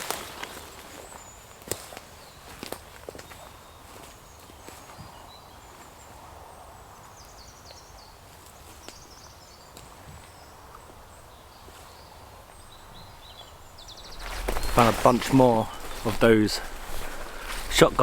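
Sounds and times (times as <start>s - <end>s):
small birds chirping faintly: 0.0s - 18.0s.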